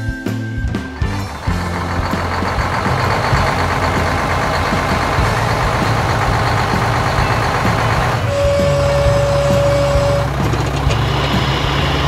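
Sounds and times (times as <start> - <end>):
heavy harvester engine: 0.6 - 12.0
low hum: 0.9 - 12.0.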